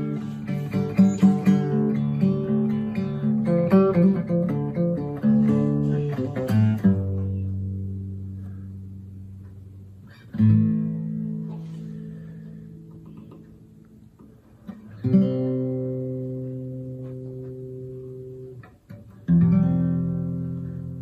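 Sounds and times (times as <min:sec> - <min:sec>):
guitar playing: 0:00.0 - 0:21.0.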